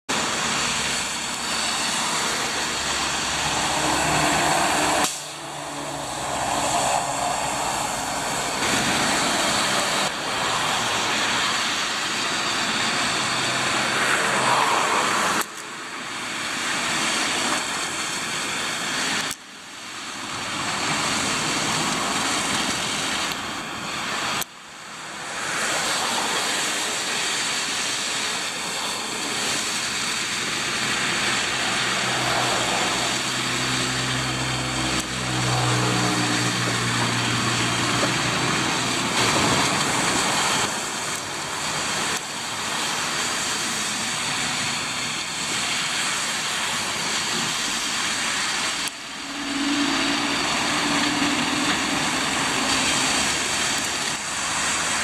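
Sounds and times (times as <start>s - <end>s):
cars and lorries passing: 0.1s - 55.0s
tyre hiss on wet road: 0.1s - 55.0s.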